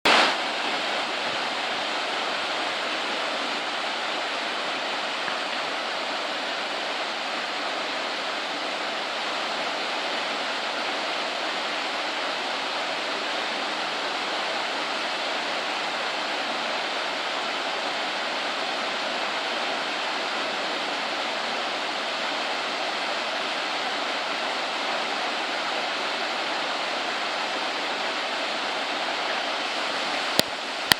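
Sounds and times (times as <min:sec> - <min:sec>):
waterfall crashing: 0:00.1 - 0:30.9.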